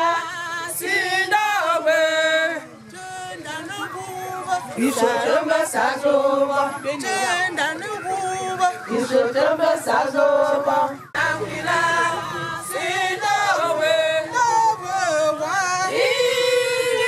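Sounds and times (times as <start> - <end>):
choir singing: 0.0 - 2.7, 4.6 - 17.0.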